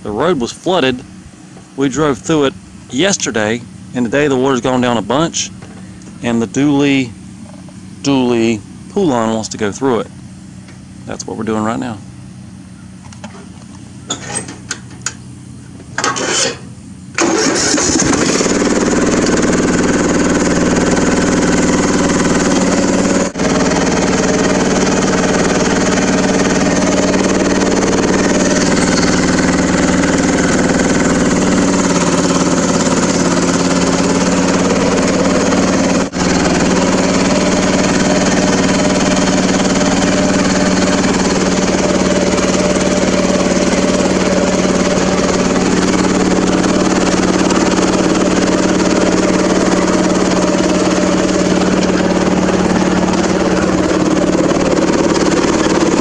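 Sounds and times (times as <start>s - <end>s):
riding lawn mower engine: 0.0s - 56.0s.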